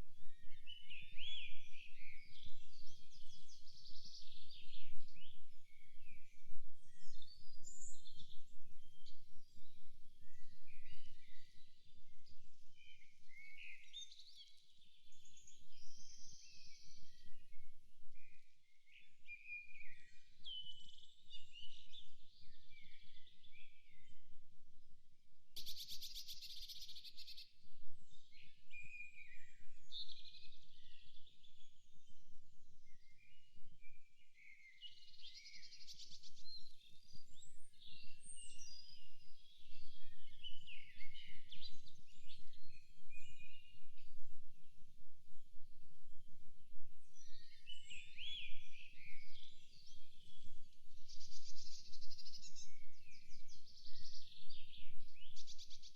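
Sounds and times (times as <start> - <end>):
songbirds chirping and trilling: 0.2 - 24.4, 25.6 - 55.9.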